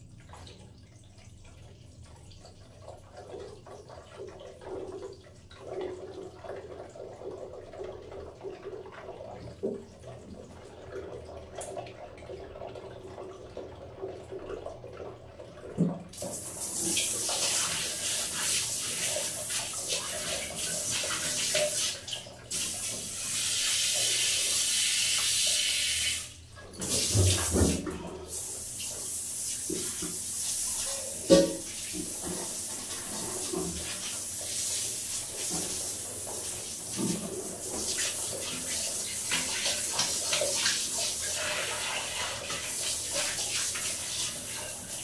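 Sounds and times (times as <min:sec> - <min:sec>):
water dripping and trickling: 0:00.0 - 0:45.0.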